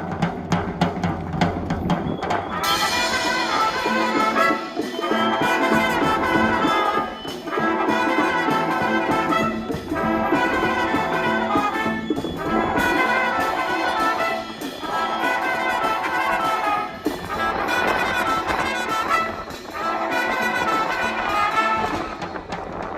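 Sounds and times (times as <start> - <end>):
brass band playing: 2.0 - 22.9.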